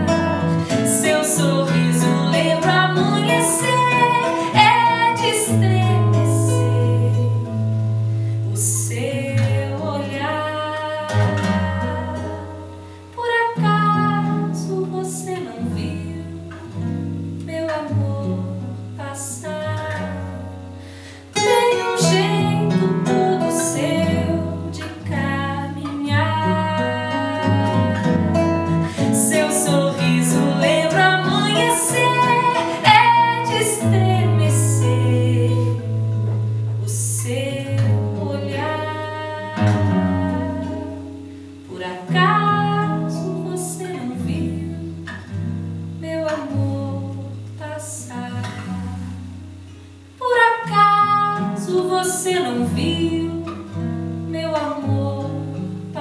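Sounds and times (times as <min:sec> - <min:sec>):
woman singing: 0:00.0 - 0:07.7, 0:08.5 - 0:20.5, 0:21.3 - 0:45.3, 0:45.9 - 0:49.4, 0:50.2 - 0:56.0
acoustic guitar: 0:00.0 - 0:56.0.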